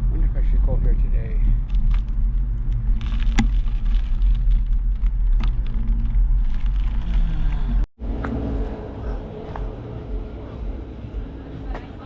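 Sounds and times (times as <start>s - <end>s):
bicycle road rumble: 0.0s - 12.0s
traffic noise: 0.0s - 12.0s
wind: 0.0s - 12.0s.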